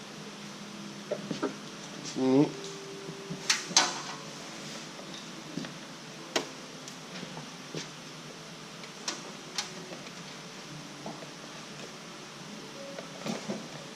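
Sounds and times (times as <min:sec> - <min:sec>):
steady background hiss: 0:00.0 - 0:13.9.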